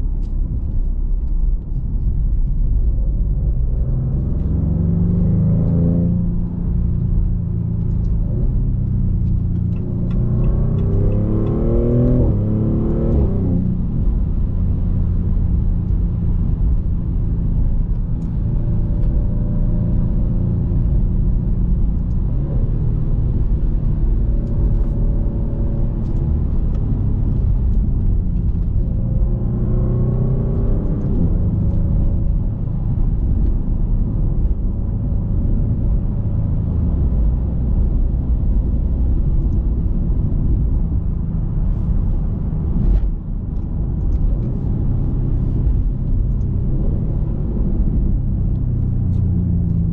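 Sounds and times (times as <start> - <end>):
car engine drone: 0.0 - 49.9
road rumble: 0.0 - 49.9.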